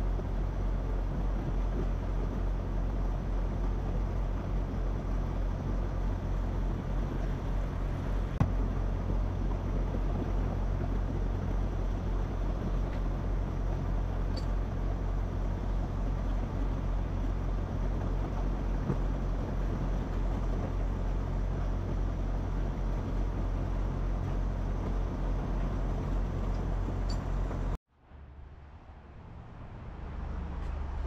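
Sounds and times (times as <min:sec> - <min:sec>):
truck engine running: 0:00.0 - 0:27.8
low hum: 0:00.0 - 0:31.0
road noise: 0:00.0 - 0:31.0.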